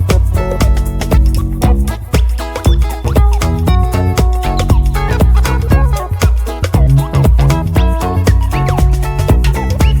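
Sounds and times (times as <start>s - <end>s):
background music with bass beat: 0.0s - 10.0s.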